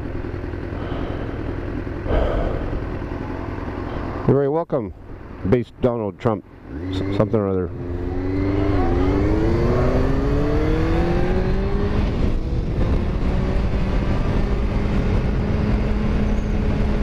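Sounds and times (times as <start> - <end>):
motorcycle engine accelerating: 0.0 - 4.3, 6.5 - 17.0.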